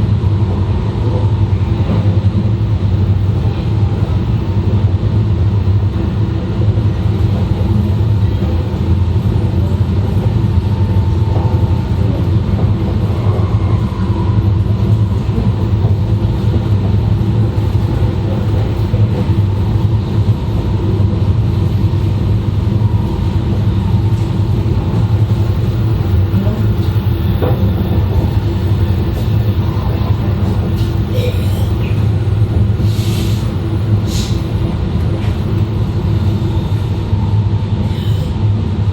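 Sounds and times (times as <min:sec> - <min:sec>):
train running rumble: 0:00.0 - 0:38.9.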